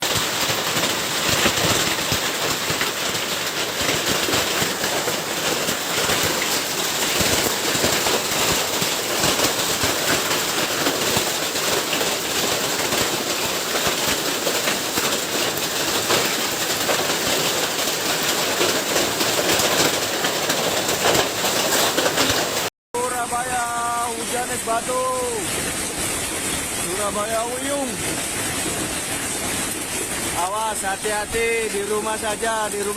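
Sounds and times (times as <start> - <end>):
hail and heavy rain pelting: 0.0 - 32.9.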